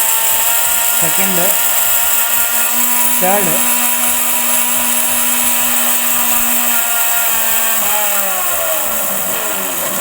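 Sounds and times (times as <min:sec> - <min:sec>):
mixer grinder whining: 0:00.0 - 0:10.0.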